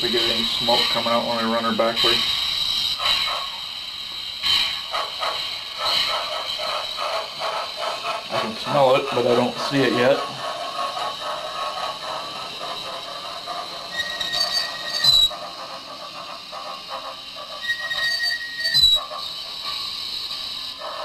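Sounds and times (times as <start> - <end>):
high tones with squeal: 0.0 - 10.3, 11.3 - 20.8
hiss: 0.0 - 21.0
model locomotive chuffing: 0.0 - 21.0.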